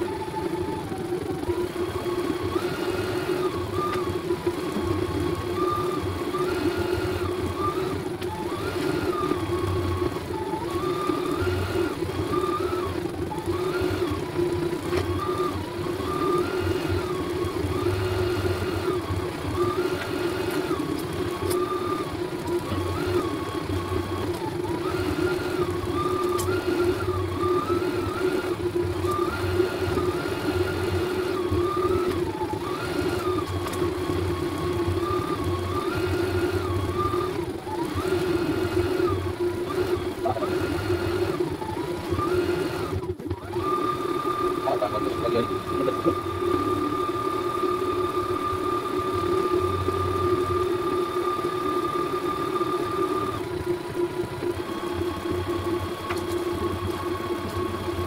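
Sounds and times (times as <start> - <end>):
embroidery machine motor whine: 0.0 - 58.0.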